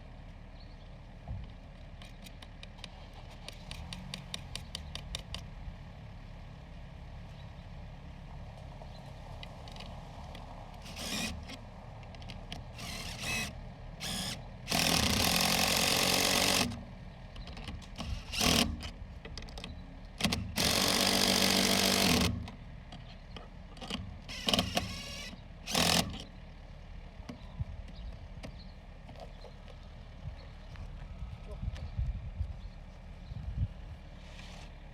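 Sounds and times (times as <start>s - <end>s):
construction machinery running: 0.0s - 34.9s.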